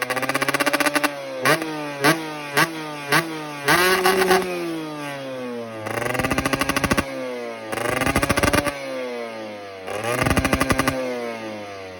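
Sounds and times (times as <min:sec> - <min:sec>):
two-stroke engine throttle blips: 0:00.0 - 0:11.9.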